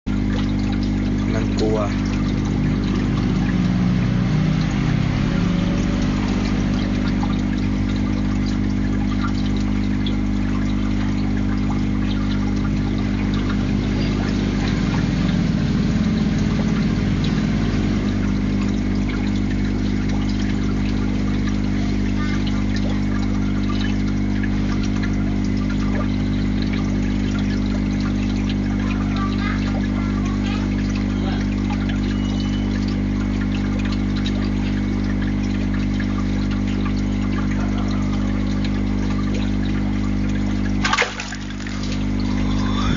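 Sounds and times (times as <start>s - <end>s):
aquarium pump humming: 0.1s - 42.9s
water trickling and splashing: 0.1s - 42.9s.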